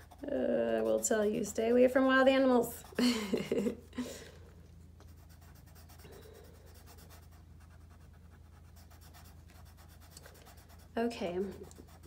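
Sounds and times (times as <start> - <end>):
pencil scratching on paper: 0.0 - 3.0, 5.1 - 12.0.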